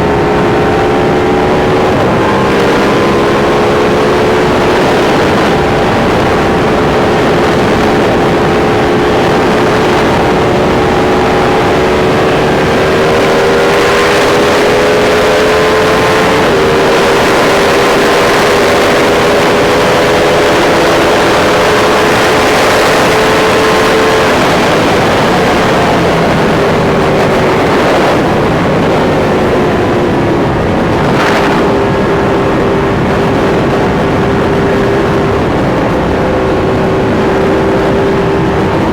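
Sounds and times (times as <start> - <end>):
motorcycle engine cruising: 0.0 - 38.9
riding wind rushing: 0.0 - 38.9.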